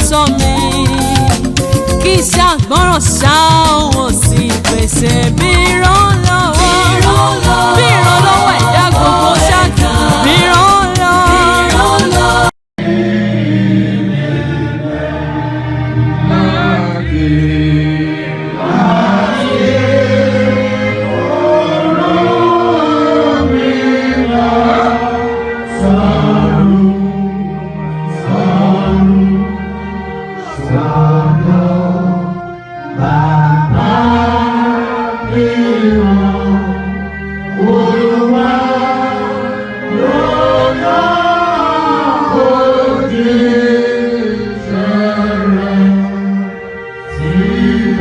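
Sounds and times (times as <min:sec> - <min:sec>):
instrumental backing with bass: 0:00.0 - 0:48.0
church choir singing: 0:05.8 - 0:48.0.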